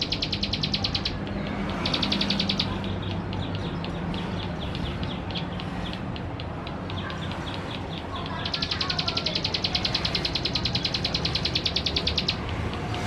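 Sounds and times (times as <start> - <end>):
bird trilling and chipping: 0.0 - 13.0.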